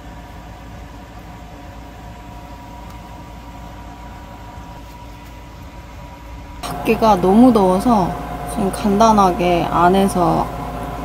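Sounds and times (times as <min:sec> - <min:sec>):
car air conditioner hum: 0:00.0 - 0:11.0.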